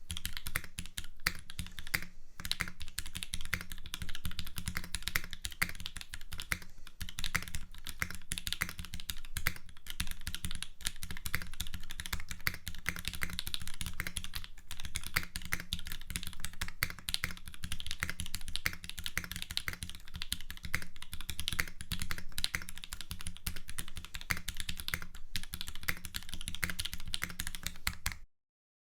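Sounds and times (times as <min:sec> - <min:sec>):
mechanical keyboard typing: 0:00.0 - 0:28.2.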